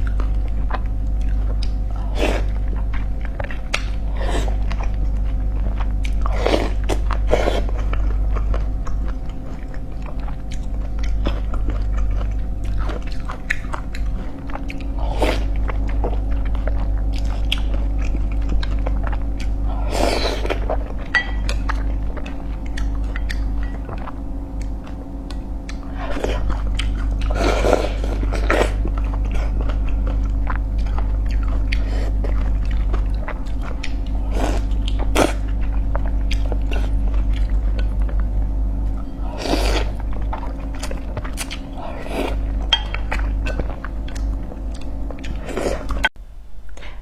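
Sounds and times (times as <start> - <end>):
person chewing food: 0.0 - 46.1
low hum: 0.0 - 47.0.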